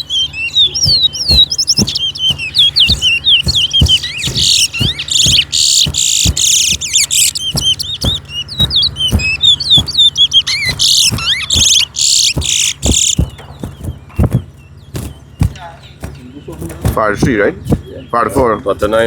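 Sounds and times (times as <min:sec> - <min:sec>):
finches singing: 0:00.0 - 0:19.0
low knocks: 0:00.0 - 0:19.0.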